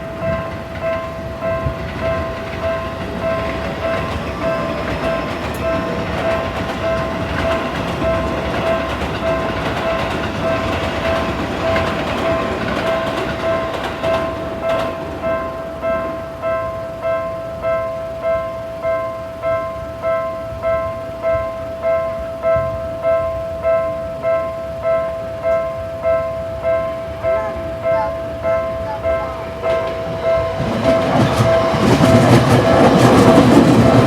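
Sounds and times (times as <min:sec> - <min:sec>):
level crossing bell dinging: 0:00.0 - 0:34.0
train rumble and wheel clatter: 0:00.0 - 0:34.0.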